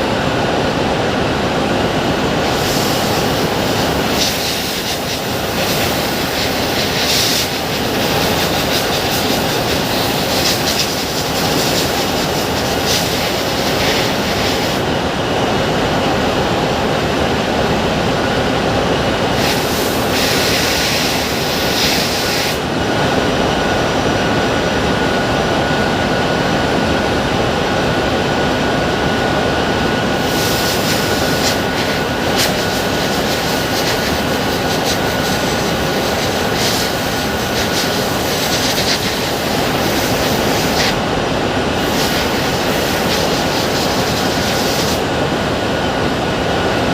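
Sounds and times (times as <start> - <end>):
loud machinery noise: 0.0 - 46.9.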